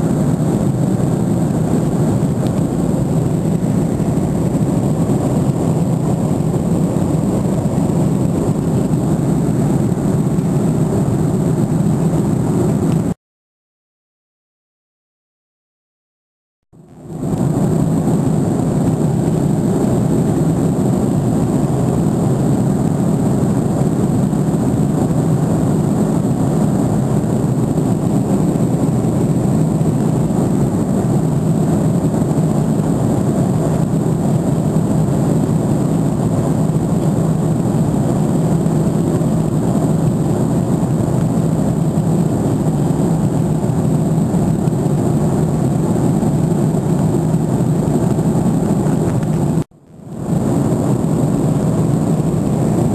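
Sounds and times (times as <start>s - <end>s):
jet airliner cabin noise: 0.0s - 13.2s, 16.8s - 52.9s.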